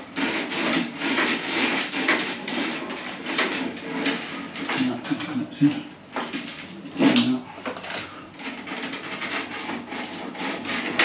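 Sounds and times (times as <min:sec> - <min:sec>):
cable rod scraping plasterboard: 0:00.0 - 0:11.0.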